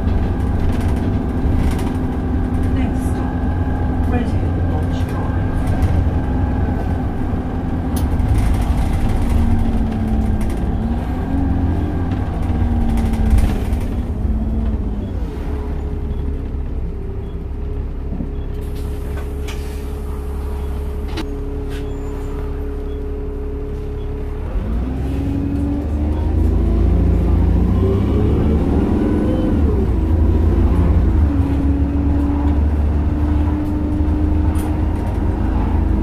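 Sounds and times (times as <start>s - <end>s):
bus engine rumble: 0.0s - 36.0s.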